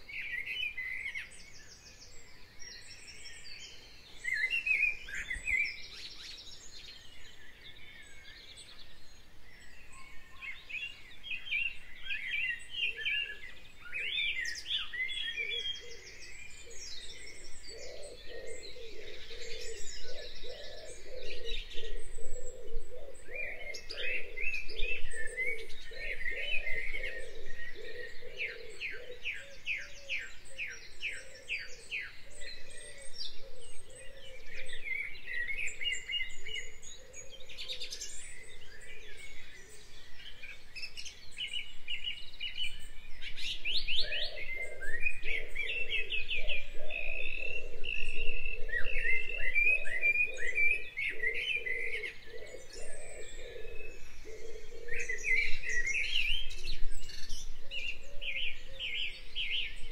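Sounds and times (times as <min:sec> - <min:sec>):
birds singing in chorus: 0:00.0 - 0:59.9.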